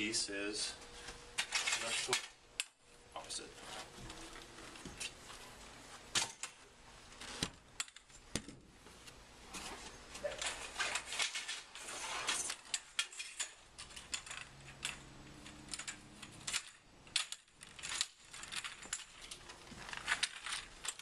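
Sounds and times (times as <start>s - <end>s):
rustling: 0.8s - 21.0s.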